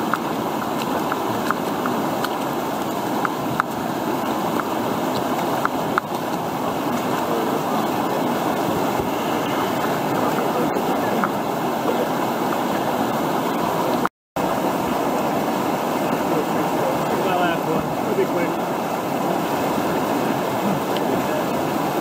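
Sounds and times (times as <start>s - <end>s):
whitewater rushing over rocks: 0.0s - 22.0s.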